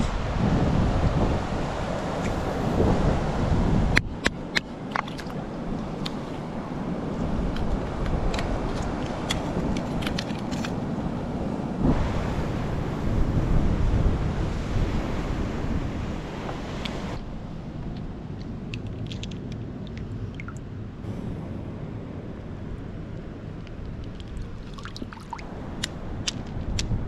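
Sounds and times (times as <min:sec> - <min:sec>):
wind on microphone: 0:00.0 - 0:18.6, 0:20.6 - 0:27.0
sea waves on rocky shore: 0:00.0 - 0:27.0.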